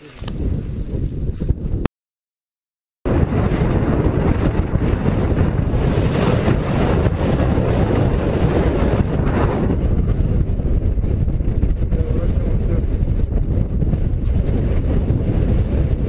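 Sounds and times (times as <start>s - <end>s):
strong wind buffeting microphone: 0.0s - 1.9s, 3.1s - 16.0s.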